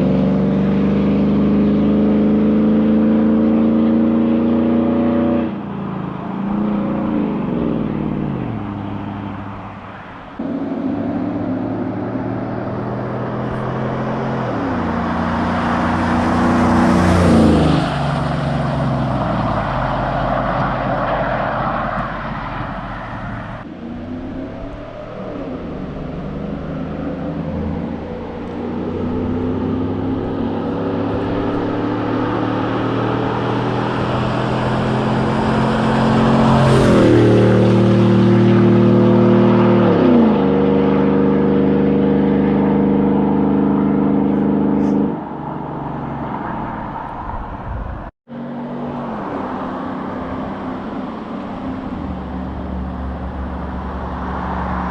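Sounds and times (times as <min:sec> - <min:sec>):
truck exhaust driving past: 0:10.3 - 0:54.9.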